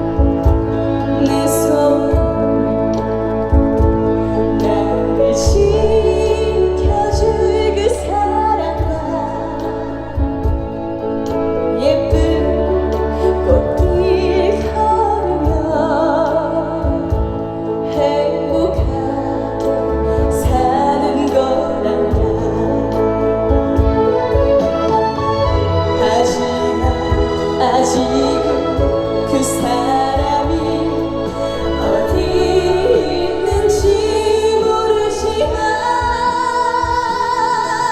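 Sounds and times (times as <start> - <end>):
instrumental accompaniment with bass: 0.0 - 37.9
woman singing: 0.0 - 37.9.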